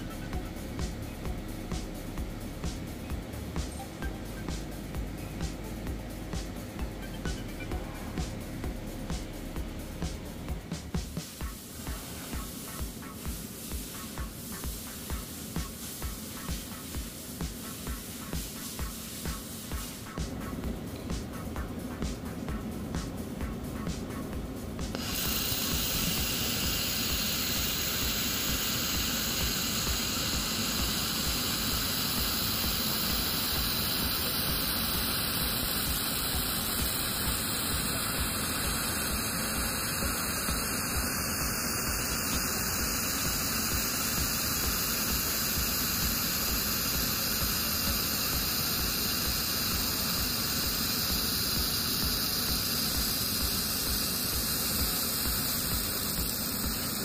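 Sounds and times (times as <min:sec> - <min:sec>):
laser welder hissing: 0:00.0 - 0:57.0.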